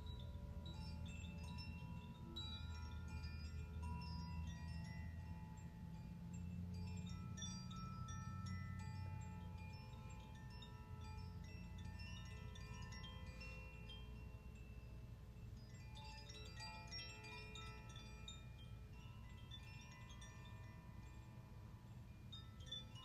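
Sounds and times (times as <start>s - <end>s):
low steady hum: 0.0s - 23.0s
wind chimes ringing: 0.0s - 23.0s.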